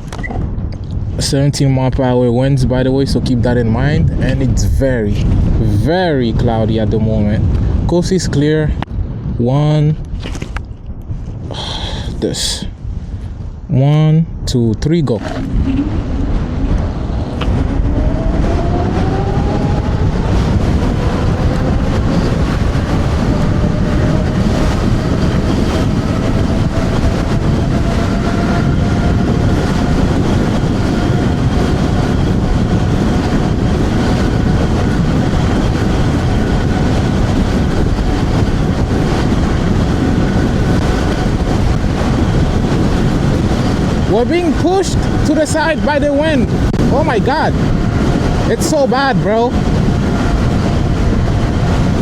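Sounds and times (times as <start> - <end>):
wind rush on microphone: 0.0 - 52.0.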